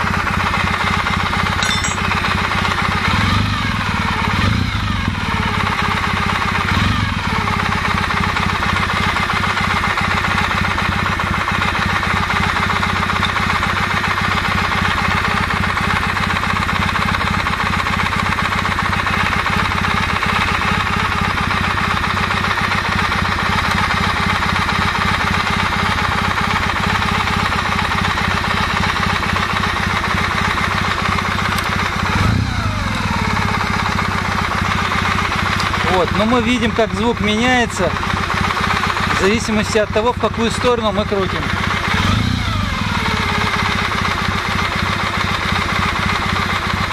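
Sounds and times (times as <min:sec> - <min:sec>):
engine knocking: 0:00.0 - 0:46.9
motorcycle engine idling: 0:00.0 - 0:46.9.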